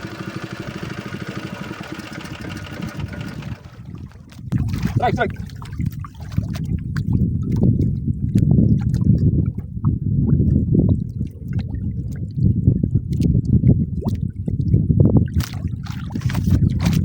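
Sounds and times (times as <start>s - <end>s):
water churning against boat: 0.0s - 17.0s.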